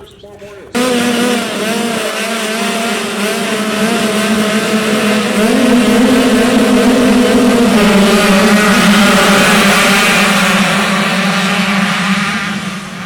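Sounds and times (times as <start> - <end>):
dirt bike engines revving: 0.7 - 13.0.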